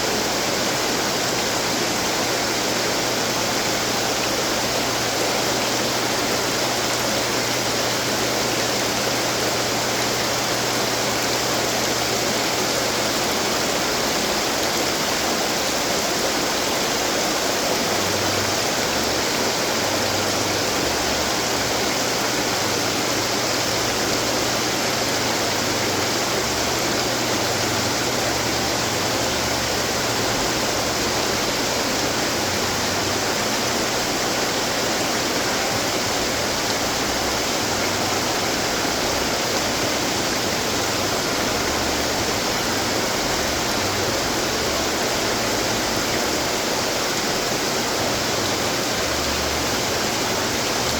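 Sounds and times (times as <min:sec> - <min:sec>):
fountain water splashing: 0:00.0 - 0:50.9.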